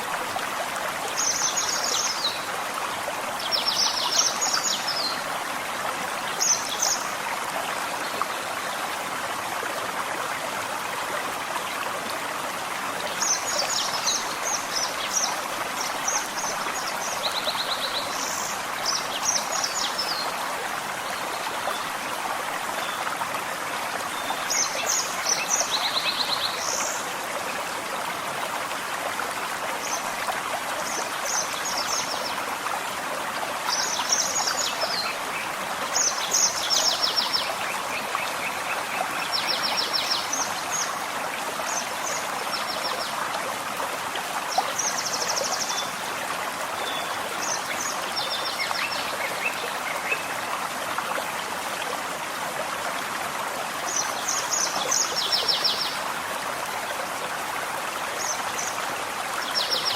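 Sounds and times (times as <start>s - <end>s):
forest stream running: 0.0s - 59.9s.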